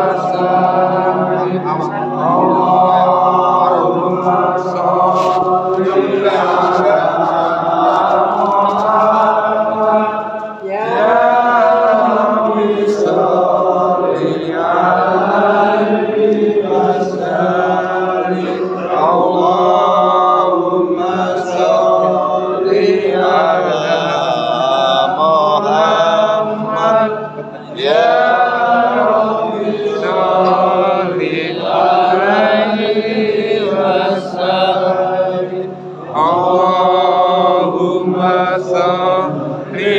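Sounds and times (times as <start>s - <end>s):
voices chanting: 0.0s - 39.9s.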